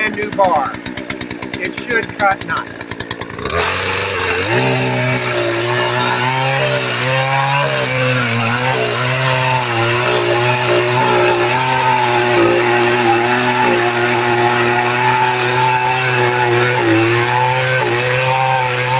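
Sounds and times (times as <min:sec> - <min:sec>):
chainsaw cutting log: 0:00.0 - 0:18.9.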